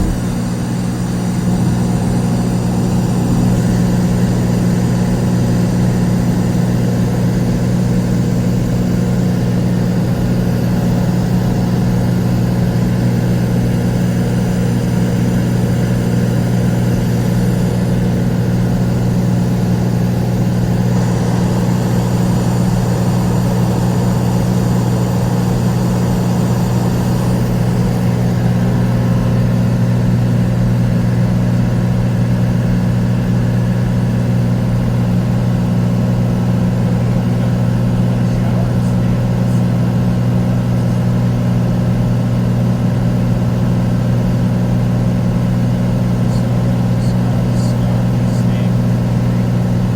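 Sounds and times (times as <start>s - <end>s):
airplane engine and propeller drone: 0.0s - 49.9s.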